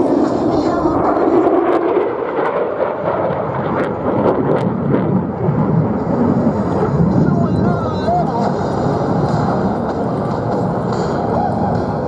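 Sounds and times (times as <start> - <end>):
jet engine rumble: 0.0 - 12.0.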